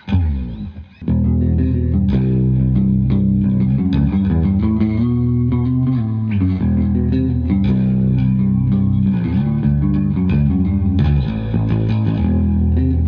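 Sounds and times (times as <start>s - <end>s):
electric bass notes: 0.0s - 13.0s.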